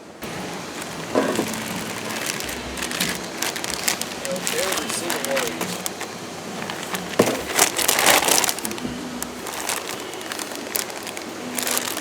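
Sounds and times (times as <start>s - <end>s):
cardboard crunching and rustling: 0.2s - 12.0s.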